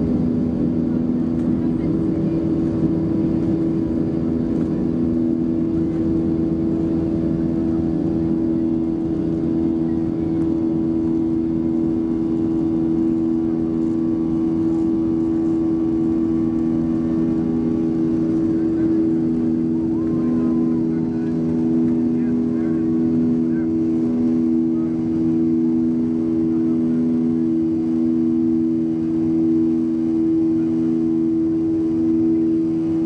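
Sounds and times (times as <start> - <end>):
jet engines at takeoff thrust: 0.0 - 33.0.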